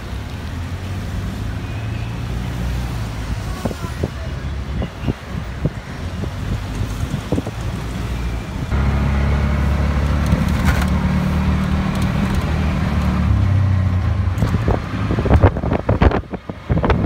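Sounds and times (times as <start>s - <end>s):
auto-rickshaw engine droning: 0.0s - 17.0s.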